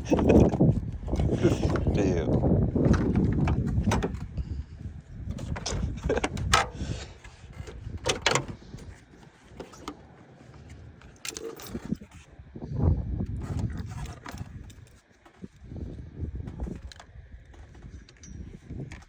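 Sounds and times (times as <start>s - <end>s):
tools and parts clattering: 0.0s - 4.4s, 5.2s - 12.3s, 13.3s - 15.6s, 16.4s - 19.0s
low rumbling handling noise: 0.0s - 19.0s.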